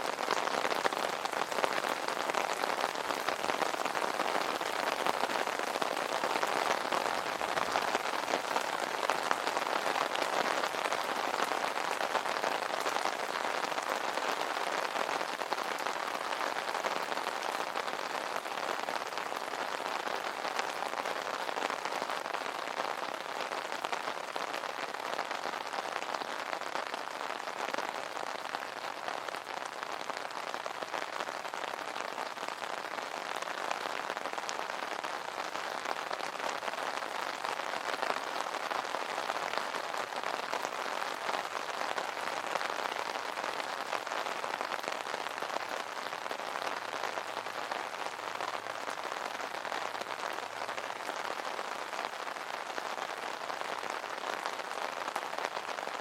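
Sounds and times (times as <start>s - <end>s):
rain on an umbrella: 0.0s - 56.0s.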